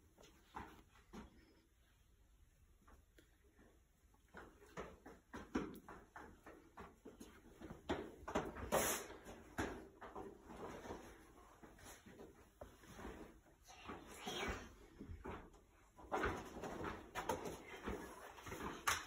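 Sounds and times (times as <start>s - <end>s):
children's footsteps on tiled floor: 3.4s - 19.0s.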